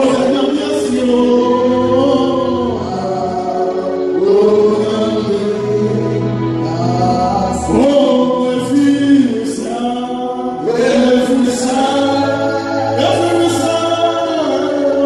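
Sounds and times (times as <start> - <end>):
men singing worship song: 0.0 - 15.0.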